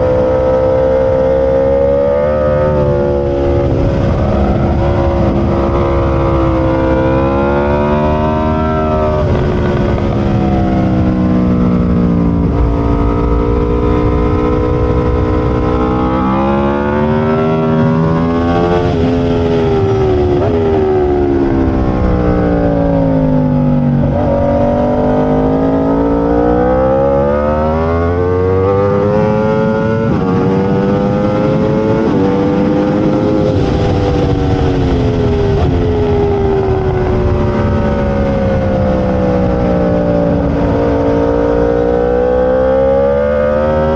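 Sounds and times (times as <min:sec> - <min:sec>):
racing motorcycle engine: 0:00.0 - 0:43.9.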